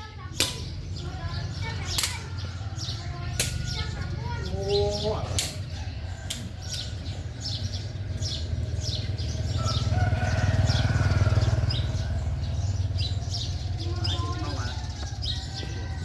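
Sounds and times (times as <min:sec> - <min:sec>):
passing vehicle engine rumble: 0:00.0 - 0:16.0
small birds chirping: 0:00.0 - 0:16.0.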